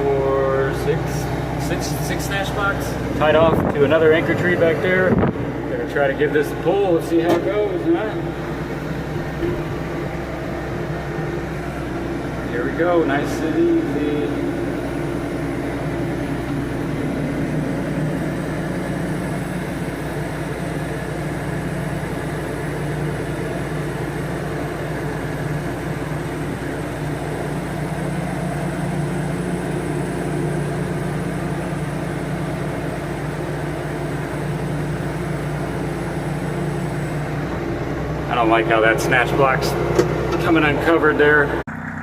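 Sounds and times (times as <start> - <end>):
tractor engine under load: 0.0 - 42.0.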